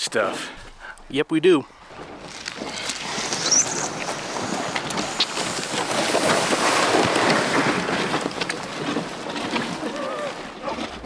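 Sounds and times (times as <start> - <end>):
footsteps crunching: 1.7 - 11.0
snowmobile scraping along ground: 2.1 - 11.0.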